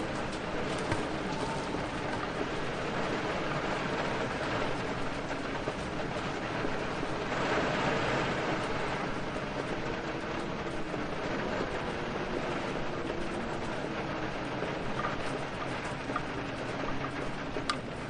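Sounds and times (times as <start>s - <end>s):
heavy rain: 0.0s - 18.0s
wind: 0.0s - 18.0s.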